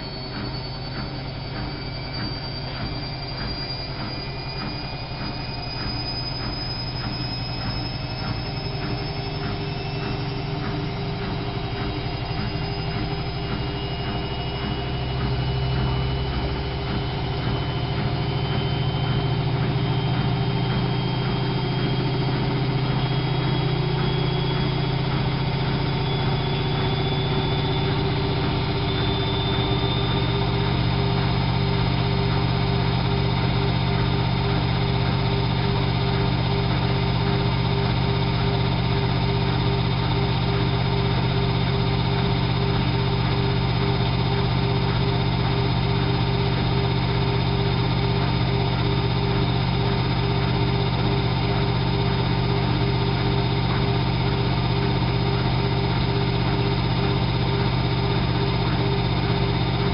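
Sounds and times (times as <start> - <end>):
rising motor whine: 0.0 - 59.9
washing machine spinning: 0.0 - 59.9.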